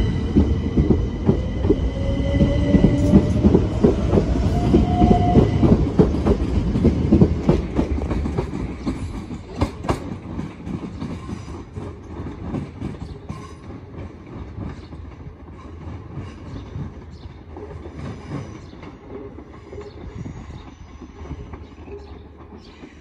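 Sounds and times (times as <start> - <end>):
wheels clattering on rails: 0.0 - 23.0.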